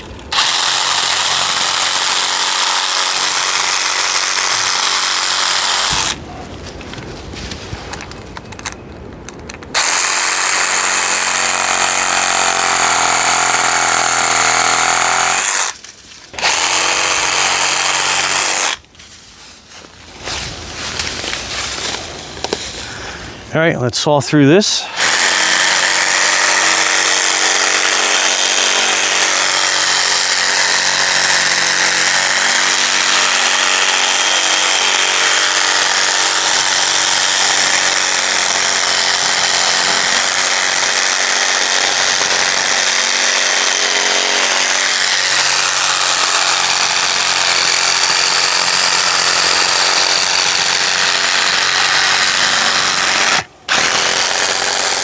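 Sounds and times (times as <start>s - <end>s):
reciprocating saw cutting wood: 0.2s - 6.2s, 9.7s - 18.8s, 24.8s - 55.0s.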